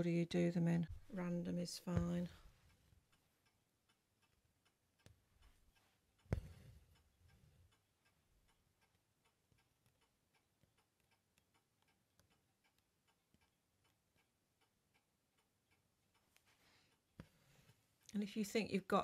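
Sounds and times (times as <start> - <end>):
small light ticks: 2.7 - 18.2.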